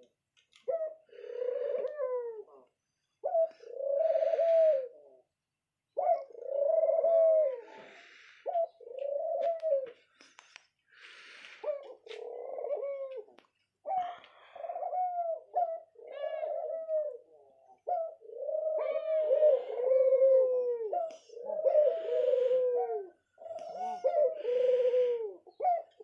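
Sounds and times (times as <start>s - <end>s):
dove cooing: 0.0s - 5.3s, 5.9s - 10.2s, 11.3s - 26.0s.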